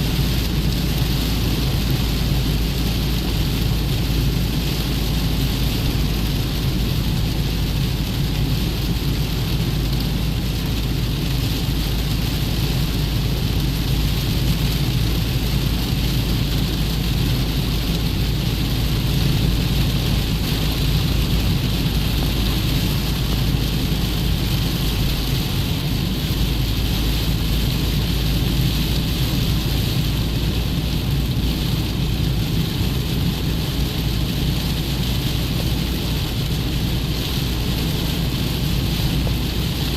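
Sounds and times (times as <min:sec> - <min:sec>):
constant low rumble: 0:00.0 - 0:39.9
steady rain falling: 0:00.0 - 0:39.9.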